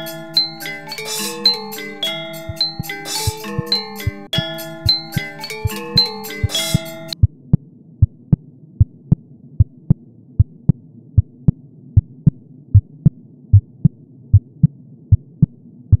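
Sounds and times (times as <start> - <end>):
low hum: 1.5 - 16.0
heartbeat thumps: 2.4 - 16.0.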